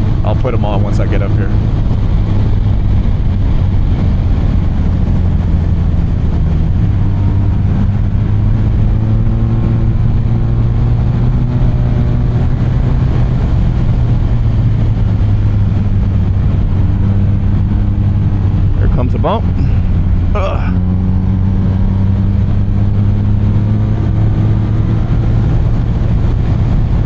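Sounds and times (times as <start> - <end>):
motorcycle engine running: 0.0 - 27.0
wind rush on microphone: 0.0 - 27.0.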